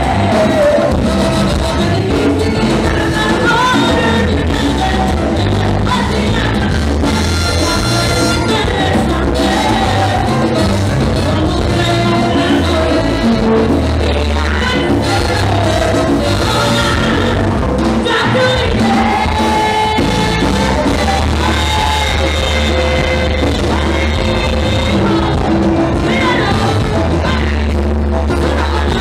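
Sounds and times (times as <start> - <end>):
latin dance band playing: 0.0 - 29.0
trumpets: 0.0 - 29.0
women singing: 0.0 - 29.0.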